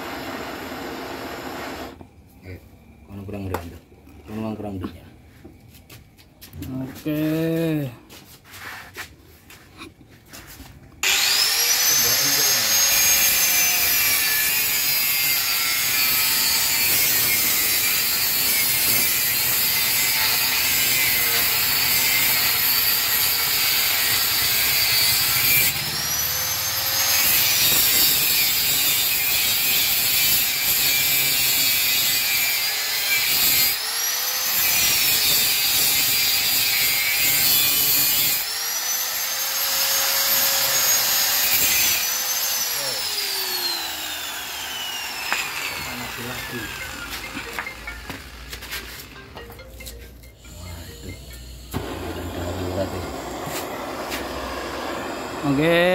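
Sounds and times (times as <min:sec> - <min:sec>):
angle grinder grinding steel: 0:11.0 - 0:55.9.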